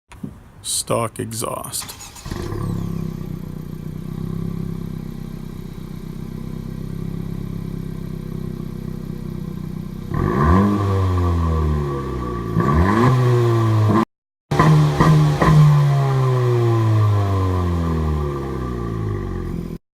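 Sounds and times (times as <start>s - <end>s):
car engine idling and revving: 1.8s - 19.8s.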